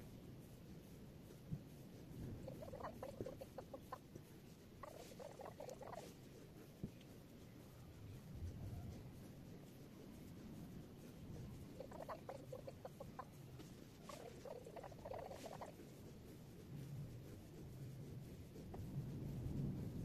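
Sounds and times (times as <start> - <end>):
fingers squeaking on skin: 2.1 - 19.7.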